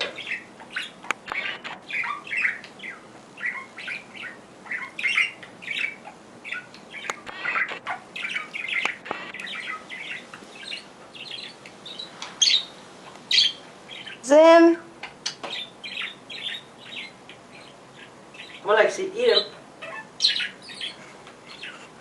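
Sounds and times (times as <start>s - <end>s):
parrot chirping and squawking: 0.0s - 22.0s.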